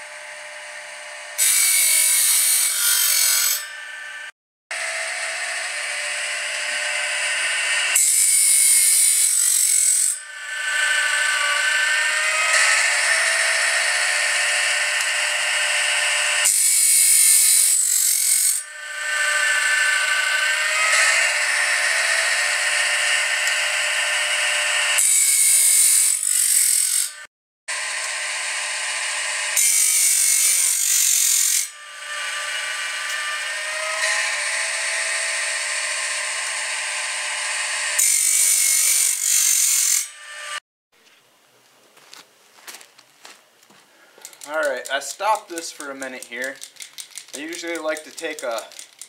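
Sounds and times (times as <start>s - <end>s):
grinding wheel sharpening blade: 1.4s - 4.2s, 5.2s - 27.2s, 29.5s - 35.0s, 35.9s - 40.6s, 44.2s - 49.0s.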